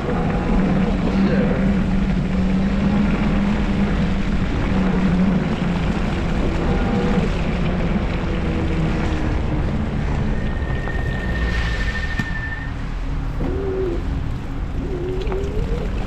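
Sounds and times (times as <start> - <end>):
low wavering hum: 0.0 - 16.0
wind and road noise: 0.0 - 16.0.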